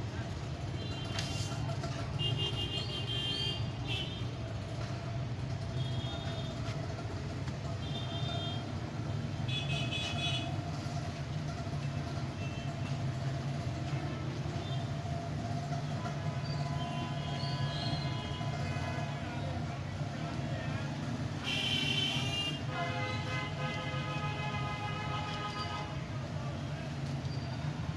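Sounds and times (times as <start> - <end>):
road traffic rumble: 0.0 - 27.9.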